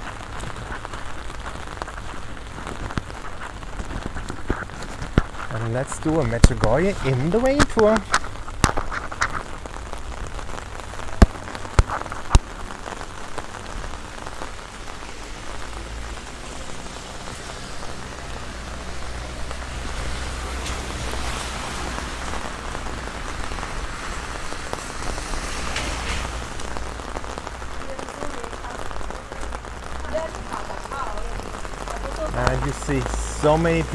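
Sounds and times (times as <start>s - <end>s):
heavy rain drumming on umbrella: 0.0s - 33.9s.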